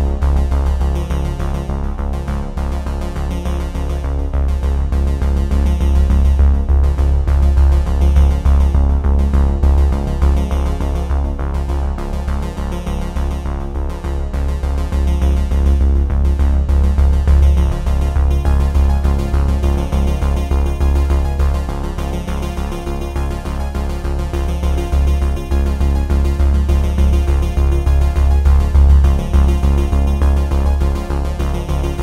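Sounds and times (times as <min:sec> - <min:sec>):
electronic music with heavy bass: 0:00.0 - 0:32.0.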